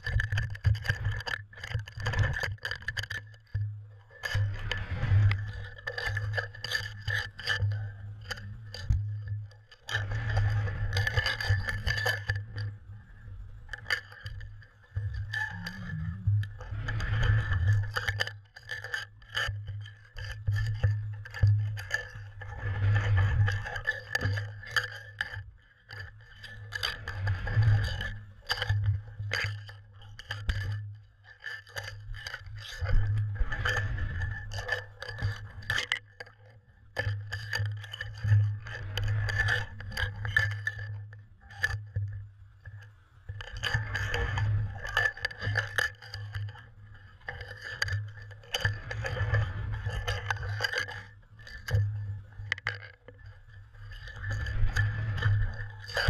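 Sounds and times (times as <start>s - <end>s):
muffled underwater scraping and clicking: 0.0s - 56.0s.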